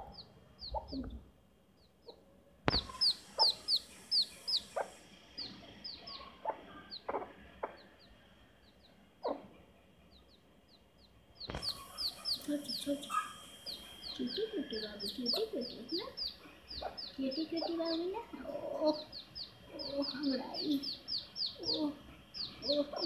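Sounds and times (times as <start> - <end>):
chick peeping: 0.0 - 1.2, 1.8 - 23.0
hen clucking: 0.0 - 1.2, 2.0 - 10.4, 11.4 - 23.0.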